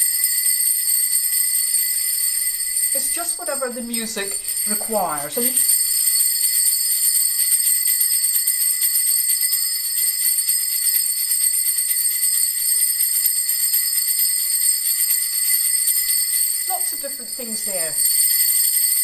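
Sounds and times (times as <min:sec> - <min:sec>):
sleigh bells jingling: 0:00.0 - 0:19.0.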